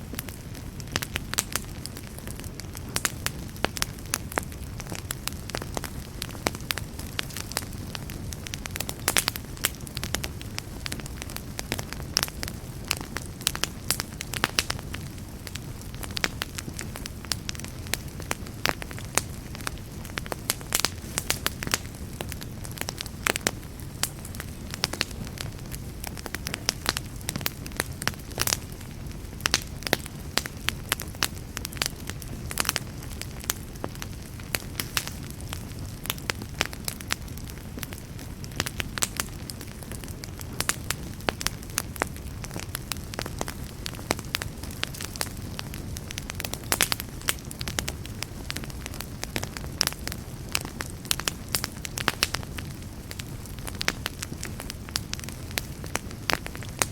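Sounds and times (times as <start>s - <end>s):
campfire rumbling: 0.0s - 56.9s
wood crackling and popping: 0.0s - 56.9s.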